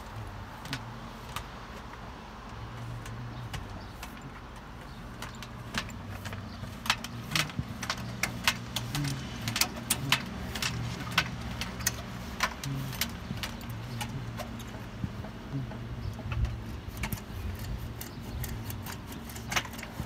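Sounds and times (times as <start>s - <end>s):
sharp metallic clicks: 0.0s - 20.0s.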